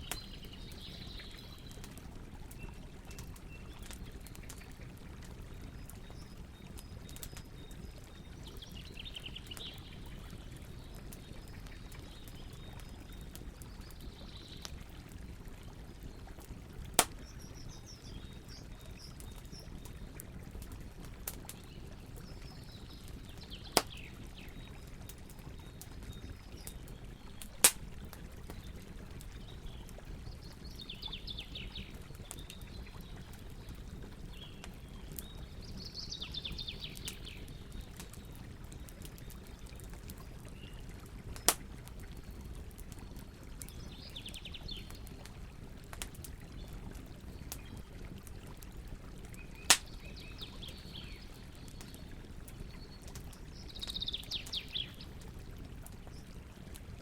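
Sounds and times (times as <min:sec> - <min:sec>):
campfire burning: 0:00.0 - 0:57.0
fire crackles and pops: 0:00.0 - 0:57.0.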